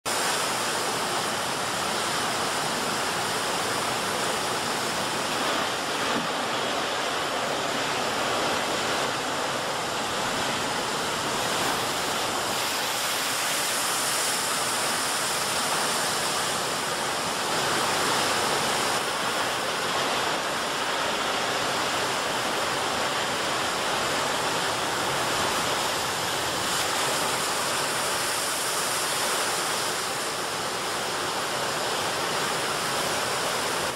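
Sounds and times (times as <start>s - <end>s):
rushing churning water: 0.0s - 33.9s.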